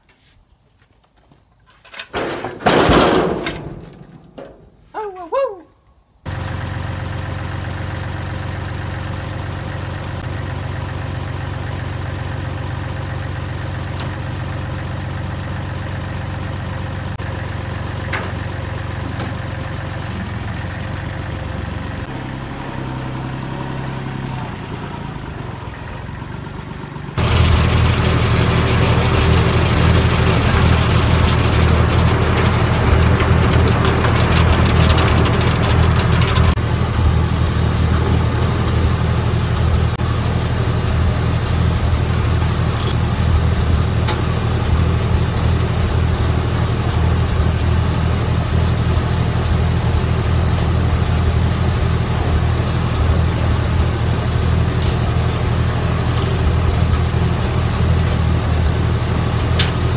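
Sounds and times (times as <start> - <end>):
engine idling: 6.2 - 59.9.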